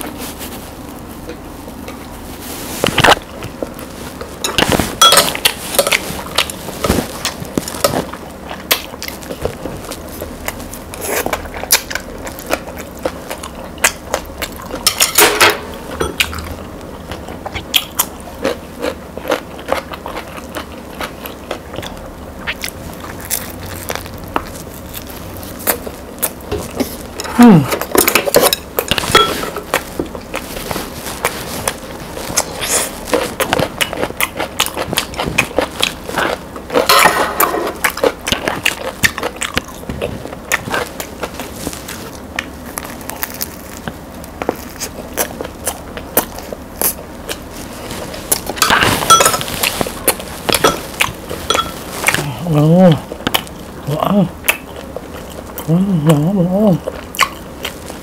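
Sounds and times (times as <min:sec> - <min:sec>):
crunching and chewing bread: 0:00.0 - 0:58.0.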